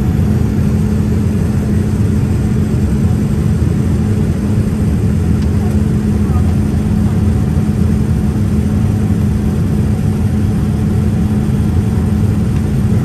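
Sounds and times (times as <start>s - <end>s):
jet engine roar inside cabin: 0.0s - 13.0s
low hum: 0.0s - 13.0s.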